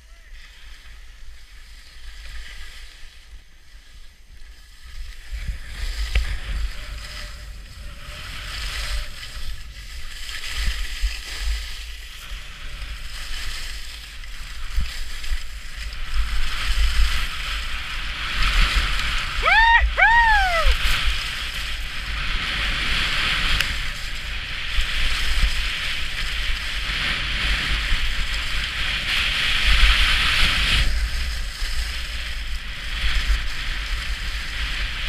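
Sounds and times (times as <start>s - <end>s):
skis scraping over packed snow: 0.0s - 35.0s
wind buffeting microphone: 5.0s - 35.0s.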